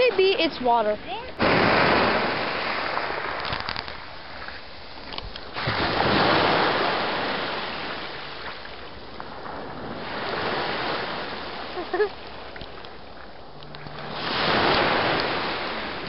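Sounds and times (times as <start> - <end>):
waves washing on beach: 0.0 - 16.0.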